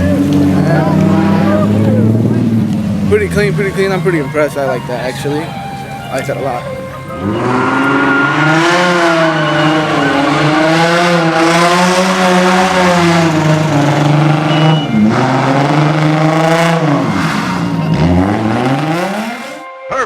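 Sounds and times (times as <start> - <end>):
tyres squealing: 0.0 - 19.6
car engine revving high: 0.0 - 19.7.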